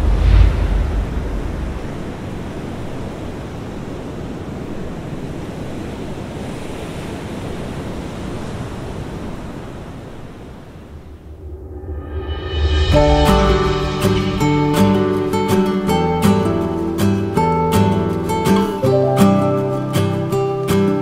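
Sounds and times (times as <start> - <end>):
ocean waves breaking: 0.0 - 21.0.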